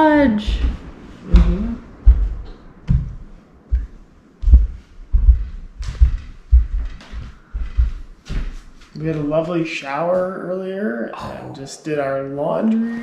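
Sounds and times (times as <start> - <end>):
footsteps: 0.0 - 10.6.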